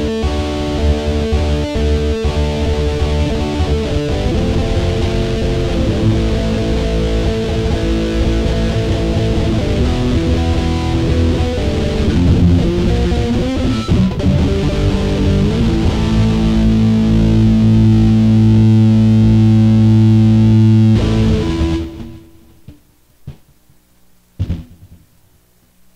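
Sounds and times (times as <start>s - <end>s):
distorted electric guitar: 0.0s - 23.5s.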